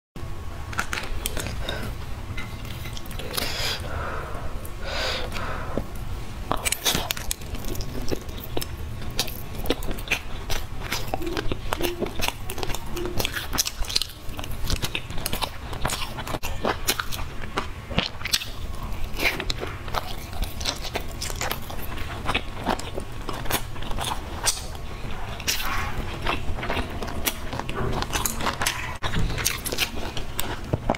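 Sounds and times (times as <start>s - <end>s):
low steady hum: 0.2s - 30.9s
person chewing crunchy food: 0.7s - 30.9s.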